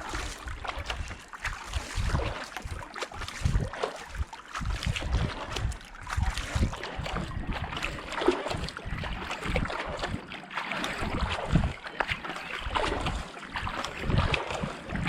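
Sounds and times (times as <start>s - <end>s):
wind on microphone: 0.0s - 10.3s, 11.0s - 15.0s
paddle splashing through water: 0.0s - 15.0s
water dripping off paddle: 0.0s - 15.0s.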